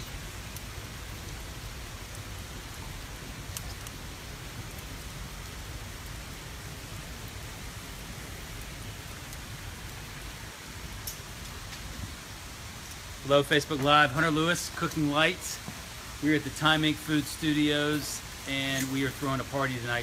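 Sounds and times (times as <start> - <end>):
fire crackles and pops: 0.0 - 20.0
hissing fire flames: 0.0 - 20.0.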